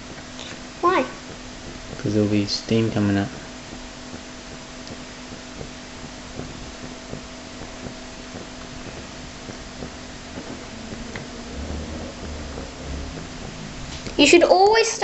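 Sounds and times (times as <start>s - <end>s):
faint irregular ticks: 0.0s - 15.0s
low hum: 0.0s - 15.0s
steady hiss: 0.0s - 15.0s.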